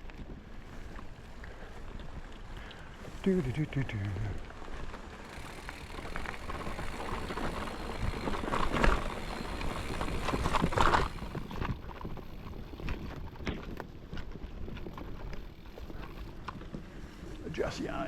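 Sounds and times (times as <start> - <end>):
bike clicking and rattling: 0.0 - 18.0
bike tyres rolling on dirt: 0.0 - 18.0.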